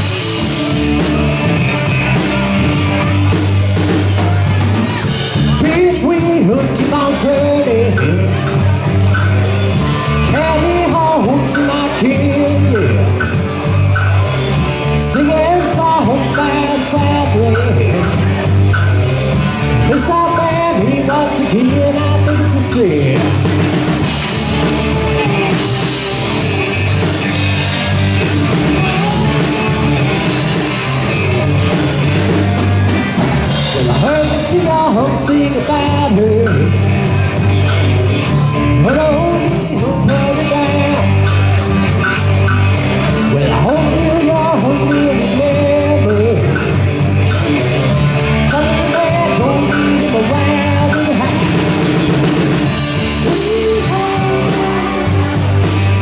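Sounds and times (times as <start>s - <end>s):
bass line of long held notes: 0.0s - 56.0s
drum kit: 0.0s - 56.0s
guitar: 0.0s - 56.0s
lead singer singing: 4.2s - 13.6s, 14.8s - 18.6s, 19.6s - 37.2s, 38.2s - 42.0s, 43.0s - 47.0s, 47.6s - 56.0s.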